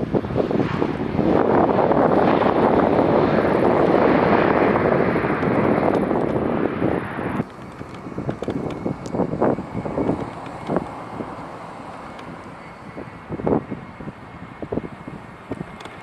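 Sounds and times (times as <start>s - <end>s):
jet airliner rumble: 0.0s - 16.0s
wind buffeting microphone: 0.0s - 16.0s.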